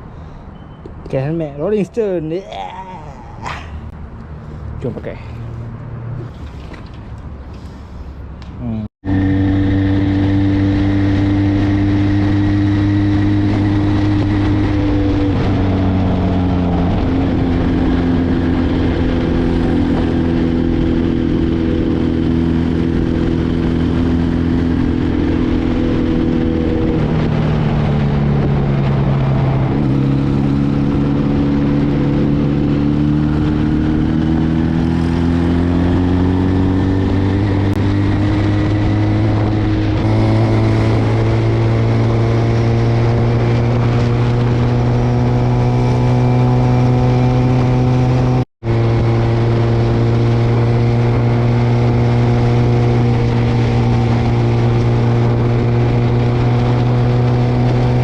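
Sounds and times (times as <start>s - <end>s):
motorcycle engine running: 8.6s - 58.0s.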